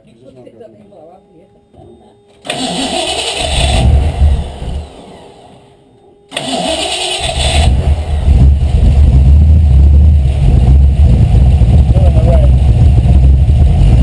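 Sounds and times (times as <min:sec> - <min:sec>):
car engine starting and running: 0:02.4 - 0:14.0.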